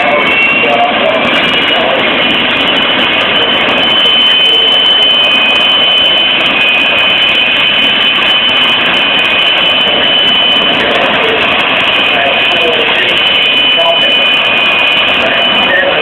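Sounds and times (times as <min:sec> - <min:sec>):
jet engine whine and roar: 0:00.0 - 0:16.0.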